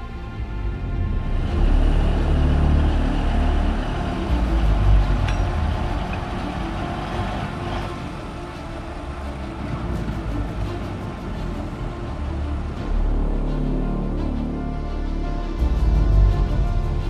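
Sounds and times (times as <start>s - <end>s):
engine low rumble: 0.0s - 17.0s.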